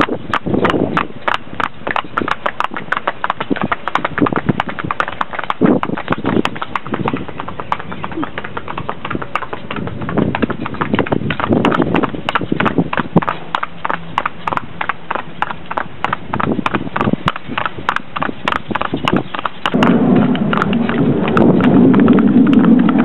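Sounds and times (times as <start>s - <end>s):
carriage rolling rumble: 0.0s - 23.0s
hooves clip-clopping on pavement: 0.0s - 23.0s.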